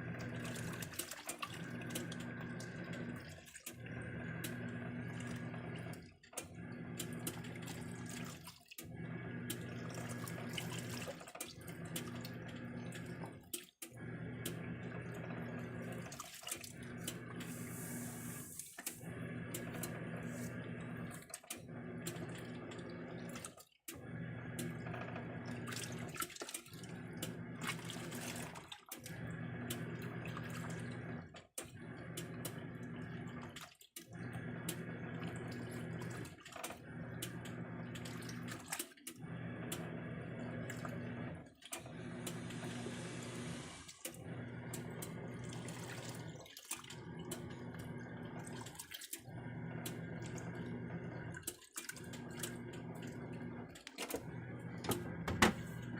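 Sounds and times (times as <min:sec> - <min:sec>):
washing machine motor hum: 0:00.0 - 0:55.9
sloshing water: 0:00.1 - 0:42.7, 0:43.3 - 0:55.9.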